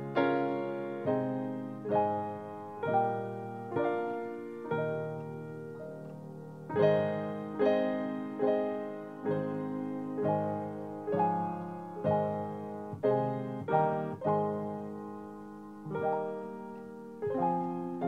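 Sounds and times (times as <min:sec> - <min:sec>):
slow gentle piano chords: 0:00.0 - 0:18.0.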